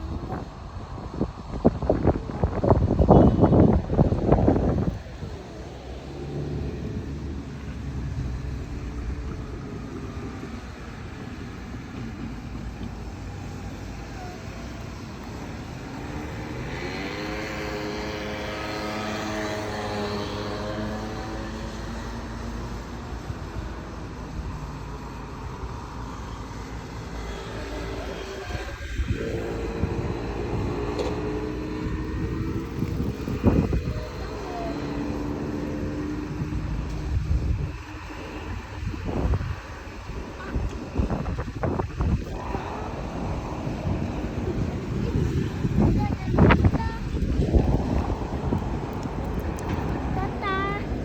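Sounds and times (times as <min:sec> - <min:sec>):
passing engine drone: 0:01.9 - 0:22.8, 0:26.0 - 0:51.0.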